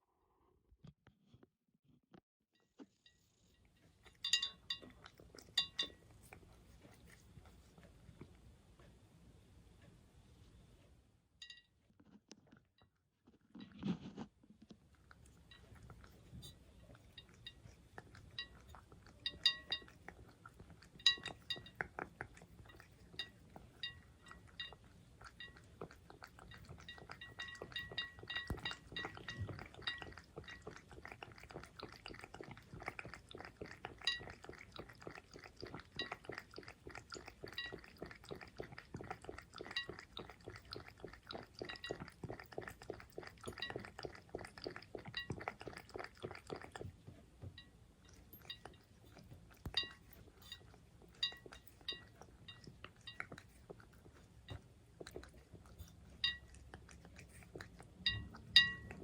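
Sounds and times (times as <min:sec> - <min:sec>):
cat lapping water: 0:03.0 - 0:10.5, 0:14.7 - 0:59.0.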